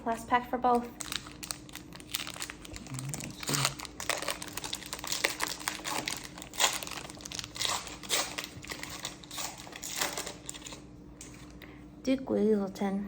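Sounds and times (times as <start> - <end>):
foil wrappers crinkling and tearing: 0.8 - 11.6.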